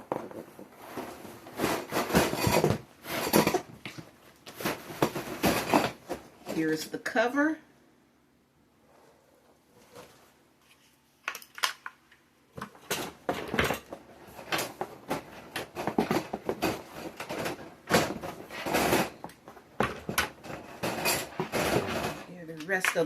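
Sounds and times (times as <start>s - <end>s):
rustling and crinkling packaging: 0.0s - 6.8s, 9.8s - 23.0s.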